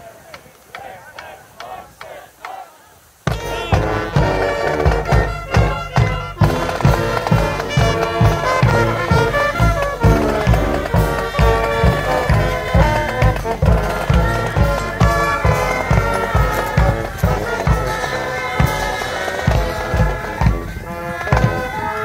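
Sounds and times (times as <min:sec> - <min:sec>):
marching band brass: 0:00.0 - 0:22.0
low drum beat: 0:03.3 - 0:21.9
sousaphone: 0:03.3 - 0:22.0.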